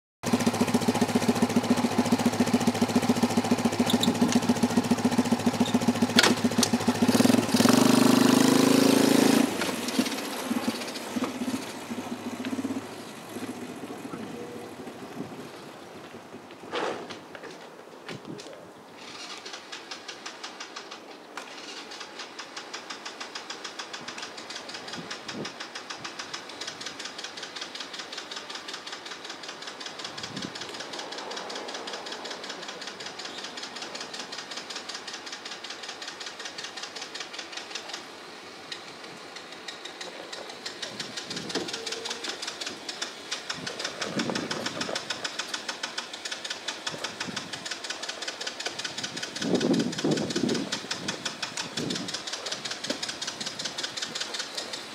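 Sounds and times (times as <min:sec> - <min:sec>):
small engine running: 0:00.2 - 0:15.3, 0:19.0 - 0:54.9.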